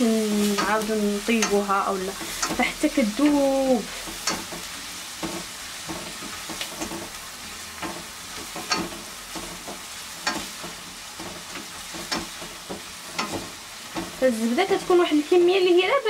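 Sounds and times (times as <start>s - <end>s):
onion sizzling in butter: 0.0s - 16.0s
spoon scraping pan: 0.3s - 15.3s
sharp crackles: 0.4s - 15.5s.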